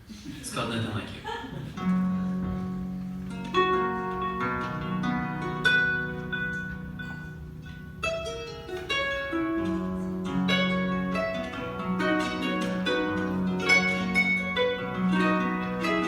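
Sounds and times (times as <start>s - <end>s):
solo guitar playing: 1.8s - 16.0s.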